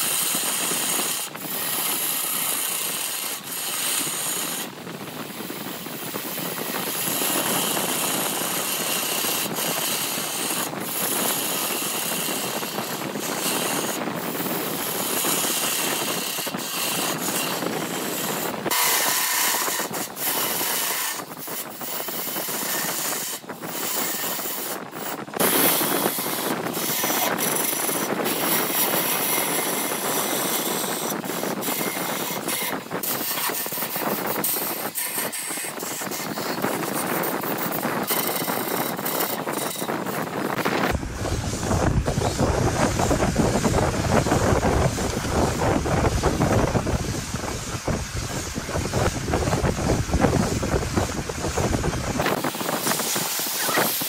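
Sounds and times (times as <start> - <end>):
lathe tool scraping wood: 0.0 - 54.0.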